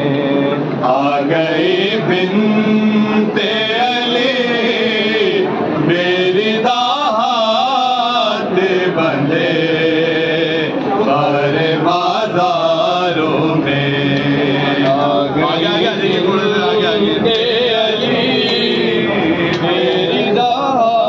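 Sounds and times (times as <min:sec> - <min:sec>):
men chanting a lament: 0:00.0 - 0:21.0.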